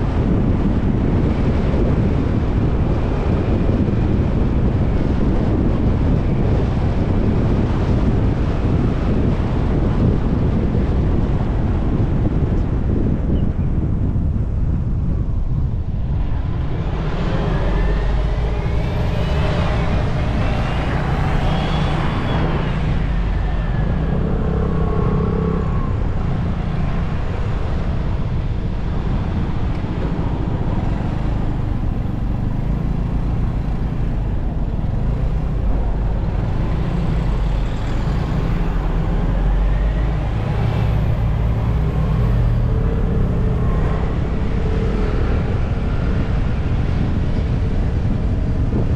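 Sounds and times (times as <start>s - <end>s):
road rumble: 0.0s - 48.9s
wind noise: 0.0s - 48.9s
scooter engine whine: 0.1s - 48.9s.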